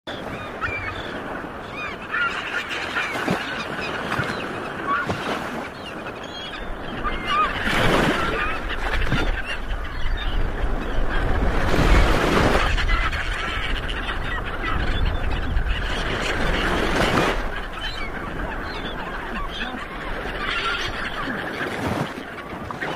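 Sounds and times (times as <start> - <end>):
gulls calling: 0.1 - 22.9.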